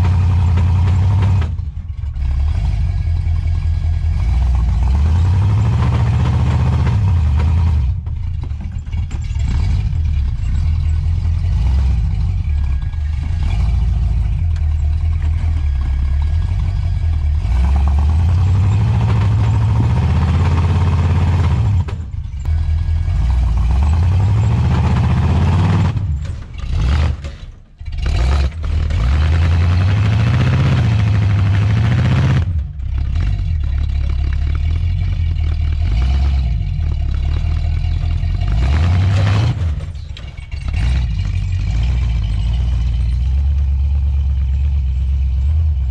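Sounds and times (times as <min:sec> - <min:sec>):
truck engine revving: 0:00.0 - 0:45.9.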